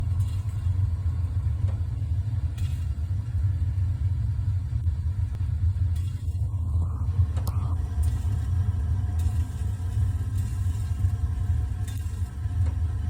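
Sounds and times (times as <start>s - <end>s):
gas burner rumbling: 0.0s - 13.0s.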